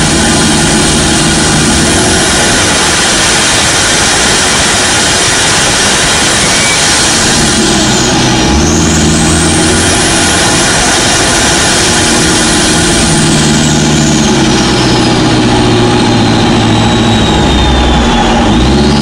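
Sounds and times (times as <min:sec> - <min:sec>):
diesel engine running: 0:00.0 - 0:19.0
high whine: 0:00.0 - 0:19.0.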